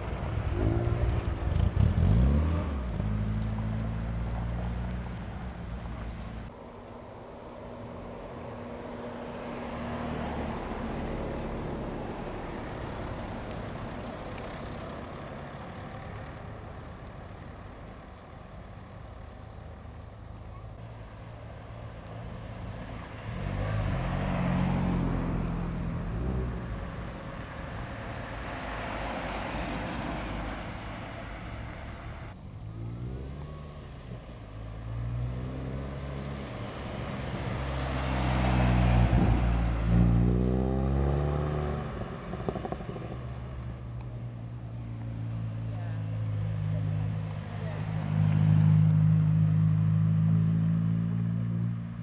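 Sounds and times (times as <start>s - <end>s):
cars driving past: 0.0s - 52.0s.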